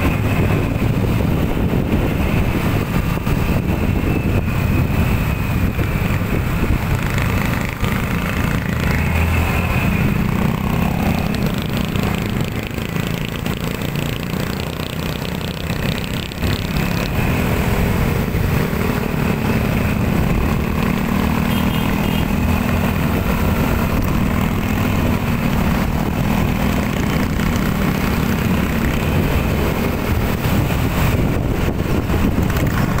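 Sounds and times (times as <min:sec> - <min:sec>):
motorcycle engine running: 0:00.0 - 0:33.0
surrounding traffic noise: 0:00.0 - 0:33.0.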